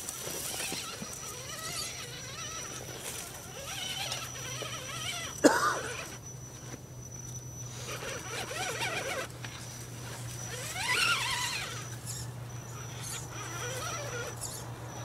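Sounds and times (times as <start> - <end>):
toy electric motors whining: 0.0 - 15.0.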